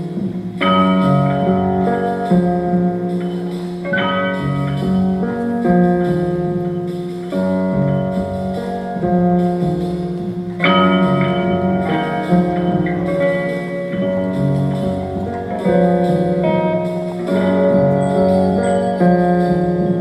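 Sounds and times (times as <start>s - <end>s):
bright struck attack: 0.0s - 20.0s
sustained ringing chords: 0.0s - 20.0s.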